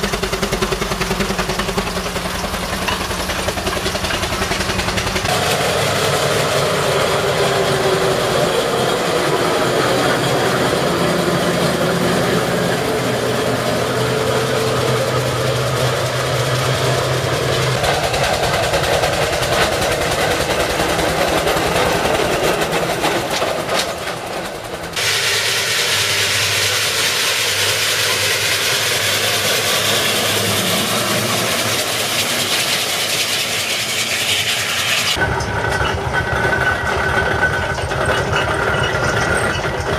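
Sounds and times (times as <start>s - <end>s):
steam engines working: 0.0s - 39.9s
wheels rolling on road: 0.0s - 39.9s.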